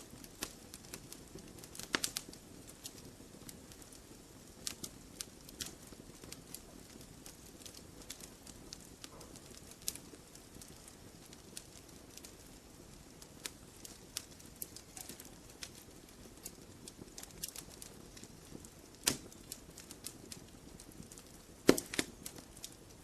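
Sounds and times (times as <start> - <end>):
campfire snaps and pops: 0.0 - 23.0
low hiss of fire: 0.0 - 23.0.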